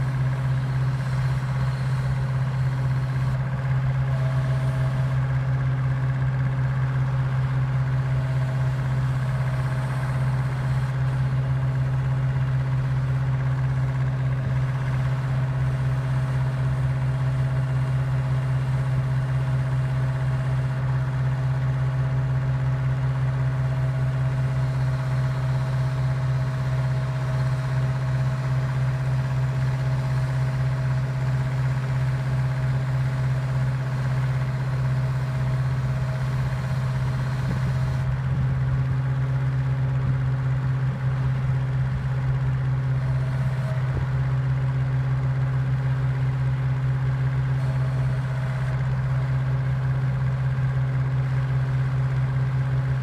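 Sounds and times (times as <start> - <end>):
grader engine running steadily: 0.0 - 53.0.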